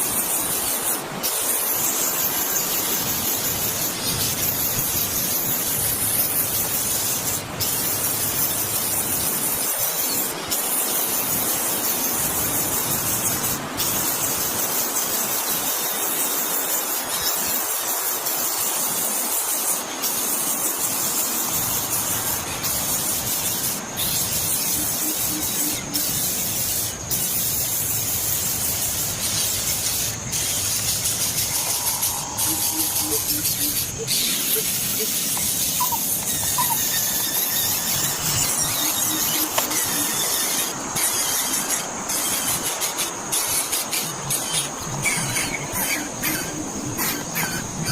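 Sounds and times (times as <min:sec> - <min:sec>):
loud steady hiss: 0:00.0 - 0:47.9.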